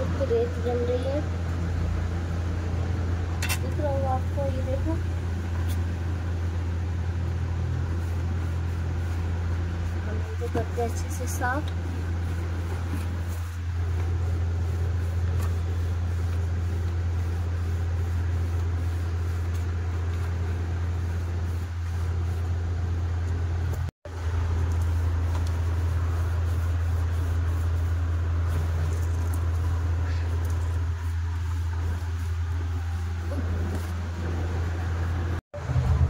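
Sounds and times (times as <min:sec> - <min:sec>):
low machine hum: 0:00.0 - 0:36.0.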